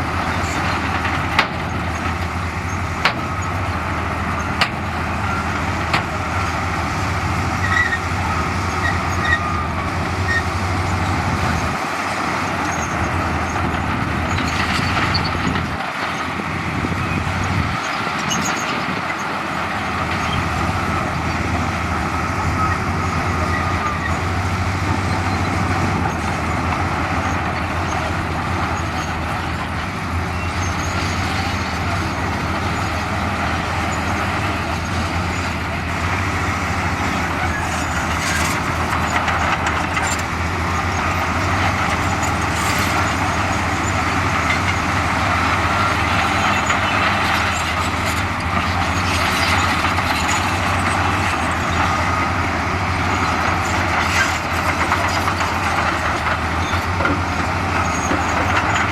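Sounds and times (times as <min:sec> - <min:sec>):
diesel engine hum: 0:00.0 - 0:58.9.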